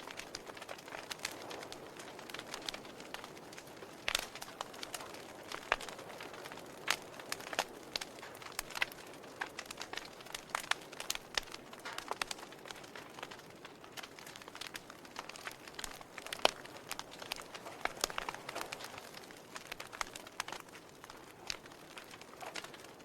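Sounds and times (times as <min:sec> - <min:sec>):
fire crackling and popping: 0:00.0 - 0:23.0
soft fire hiss: 0:00.0 - 0:23.0.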